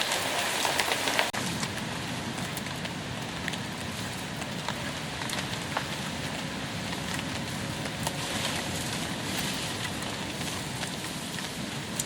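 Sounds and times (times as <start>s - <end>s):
rain hissing: 0.0s - 12.0s
rain drop taps: 0.7s - 12.0s.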